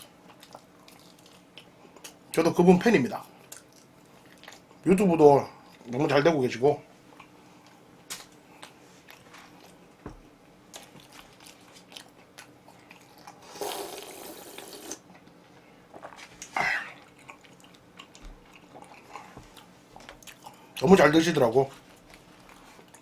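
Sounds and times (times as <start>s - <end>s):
soft chewing: 0.0s - 2.4s, 3.1s - 4.9s, 7.0s - 13.8s, 14.8s - 20.8s, 21.4s - 23.0s.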